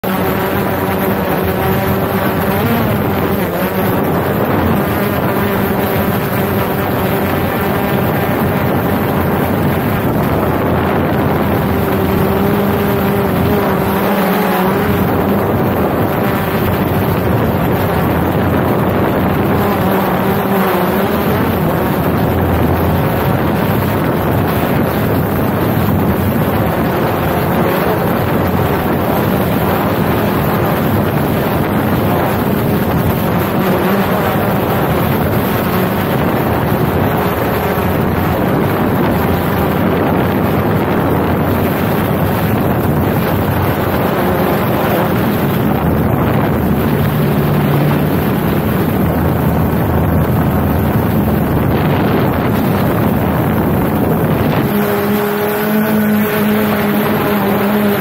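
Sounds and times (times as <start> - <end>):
drone propellers buzzing: 0.0 - 58.0
wind on microphone: 0.0 - 58.0.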